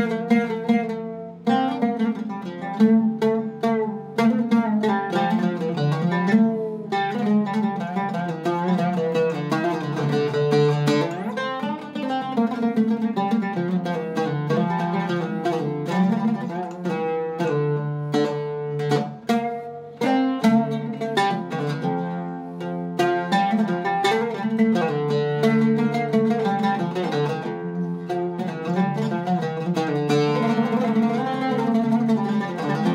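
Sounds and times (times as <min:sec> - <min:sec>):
oud plucked melody: 0:00.0 - 0:32.9.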